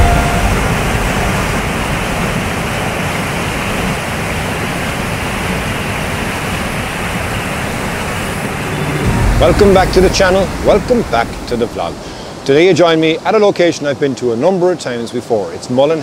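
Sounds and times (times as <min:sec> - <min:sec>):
waterfall rushing: 0:00.0 - 0:14.2
rapids: 0:00.0 - 0:16.0.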